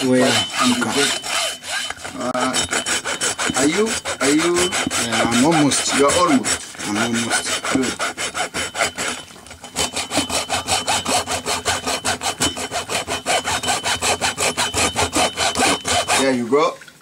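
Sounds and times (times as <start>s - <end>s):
hacksaw cutting through bone: 0.0s - 16.4s.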